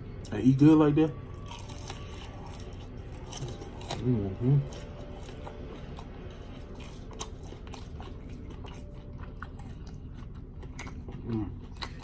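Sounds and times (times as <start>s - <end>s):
low hum: 0.0s - 12.0s
person chewing food: 1.2s - 12.0s.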